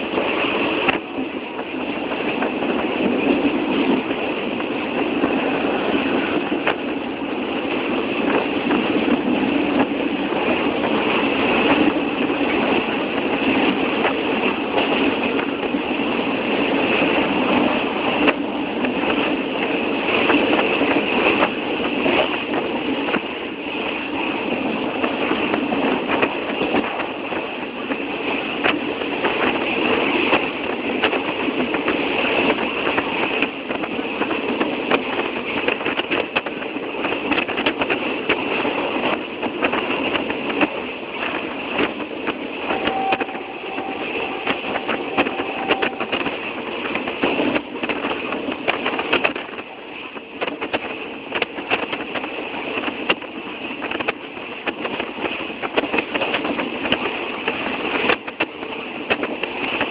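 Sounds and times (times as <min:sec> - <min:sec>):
train rattling and clattering: 0:00.0 - 0:59.9.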